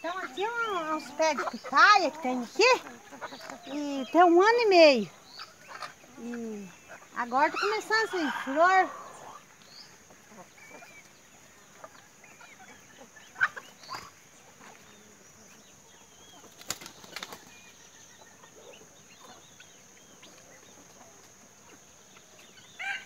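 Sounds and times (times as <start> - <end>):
faint yard ambience: 0.0 - 23.0.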